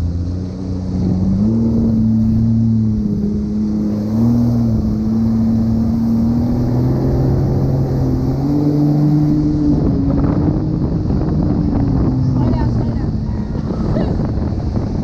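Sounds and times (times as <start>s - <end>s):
jet ski engine drone: 0.0s - 15.0s.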